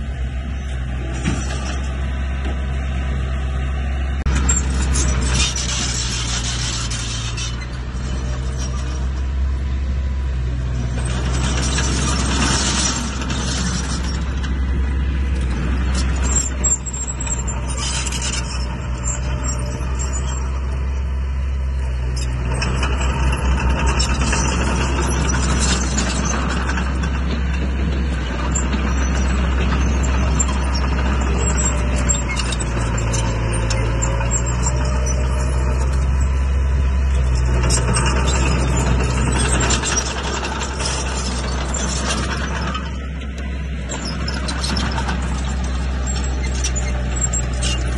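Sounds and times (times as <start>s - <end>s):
heavy diesel machinery running: 0.0s - 47.9s
metallic clanks and squeaks: 0.4s - 2.9s, 4.2s - 47.9s.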